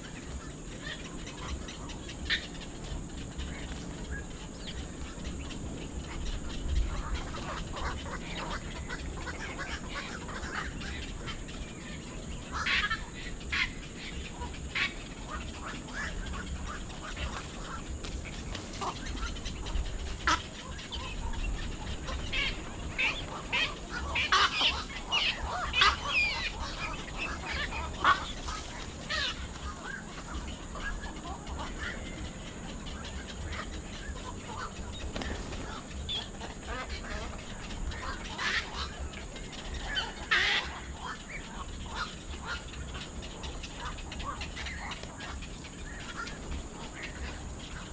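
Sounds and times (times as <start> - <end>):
birds calling: 0.0 - 47.9.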